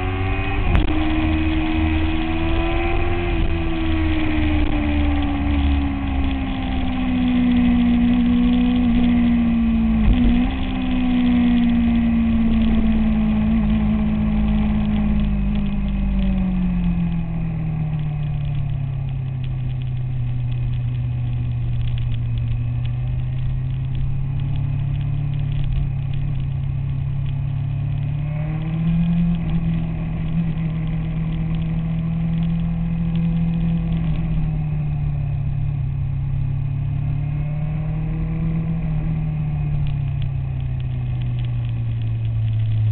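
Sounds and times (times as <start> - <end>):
motorcycle engine running: 0.0 - 42.9
wind and road rumble: 0.0 - 42.9.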